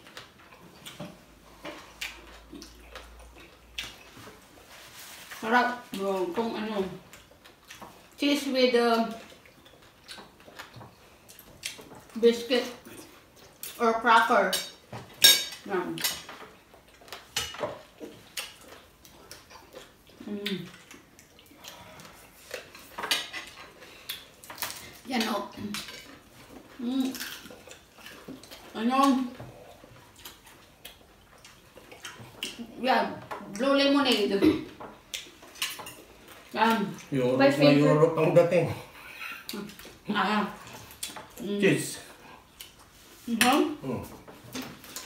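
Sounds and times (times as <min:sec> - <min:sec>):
people chewing crackers: 0:00.0 - 0:05.4, 0:06.5 - 0:08.2, 0:08.9 - 0:13.8, 0:14.7 - 0:37.2, 0:38.8 - 0:45.0.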